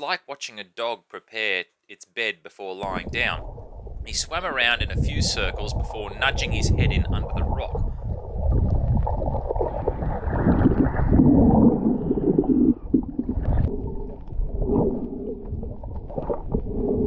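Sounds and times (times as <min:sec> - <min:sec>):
muffled underwater water noise: 0:02.8 - 0:17.0.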